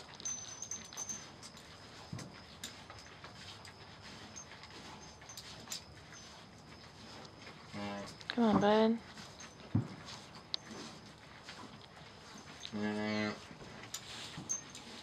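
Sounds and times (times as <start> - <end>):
calf snuffling and clicking: 0.0 - 15.0.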